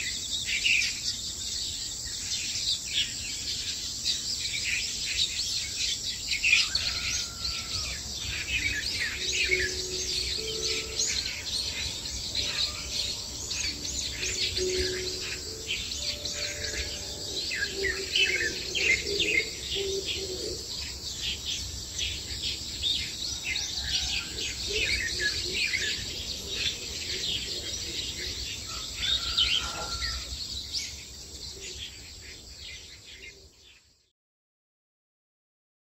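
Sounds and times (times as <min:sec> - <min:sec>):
birds chirping and singing: 0:00.0 - 0:34.1.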